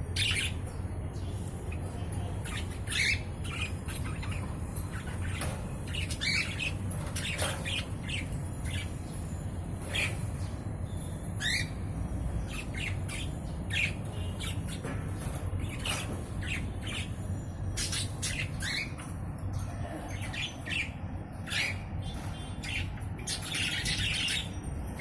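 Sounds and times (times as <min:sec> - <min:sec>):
birds squawking: 0:00.0 - 0:25.0.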